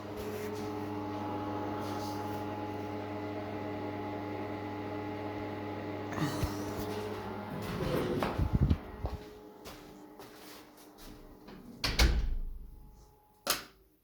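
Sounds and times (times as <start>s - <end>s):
steady machine hum: 0.0s - 13.5s.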